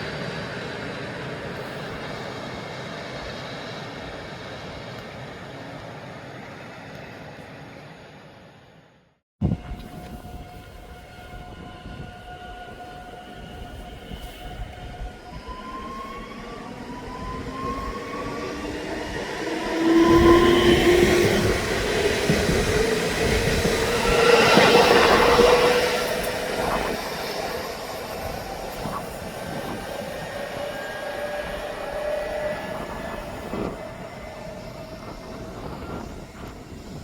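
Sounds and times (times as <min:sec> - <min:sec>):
train whine rising in pitch: 0:00.0 - 0:37.0.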